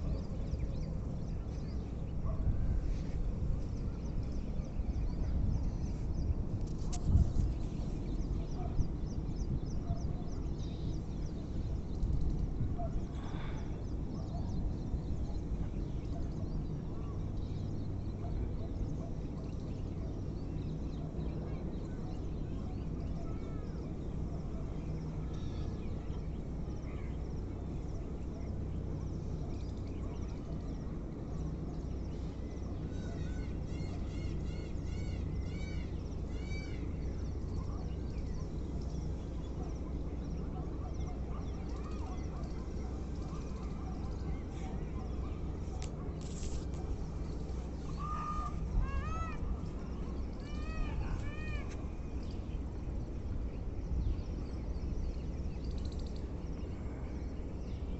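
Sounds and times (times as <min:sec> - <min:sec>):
birds calling: 0:00.0 - 0:57.9
steady low rumble: 0:00.0 - 0:57.9.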